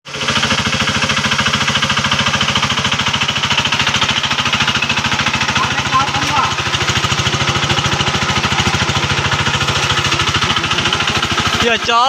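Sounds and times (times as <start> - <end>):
hand tractor engine chugging: 0.1 - 12.0.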